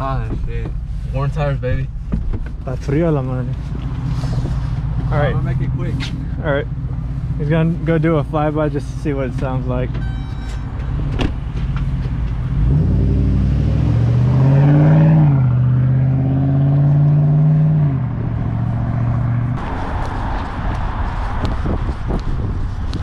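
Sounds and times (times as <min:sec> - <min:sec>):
truck exhaust accelerating: 0:02.8 - 0:23.0.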